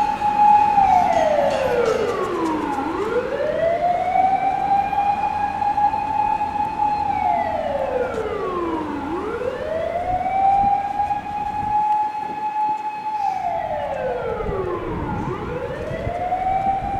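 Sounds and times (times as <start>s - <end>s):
fire engine siren wailing: 0.0s - 16.9s.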